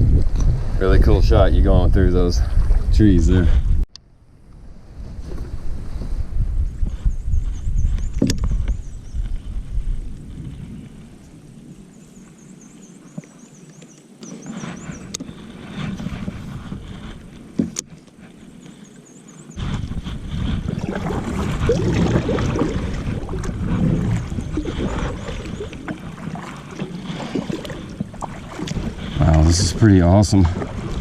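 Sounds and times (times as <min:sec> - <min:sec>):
water sloshing against hull: 0:04.7 - 0:31.0
kayak paddle strokes: 0:04.9 - 0:31.0.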